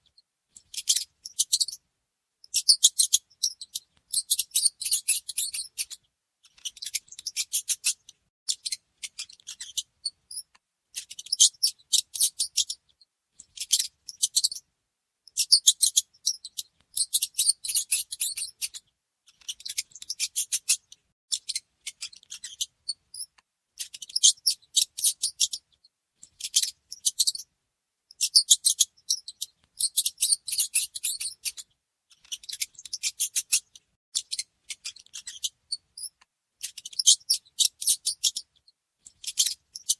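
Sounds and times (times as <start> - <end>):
mouse chittering squeaks: 0.5 - 1.8, 2.4 - 14.6, 15.3 - 27.5, 28.1 - 39.9.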